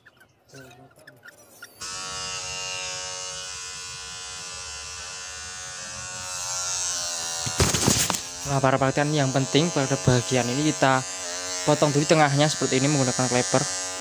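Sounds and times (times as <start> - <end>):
electric hair clipper buzzing: 1.8 - 14.0.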